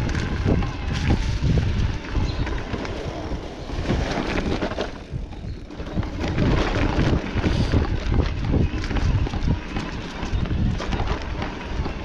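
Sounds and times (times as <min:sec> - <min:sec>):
bike rattling over bumps: 0:00.0 - 0:12.0
tyres rolling on dirt: 0:00.0 - 0:12.0
wind buffeting microphone: 0:00.0 - 0:12.0.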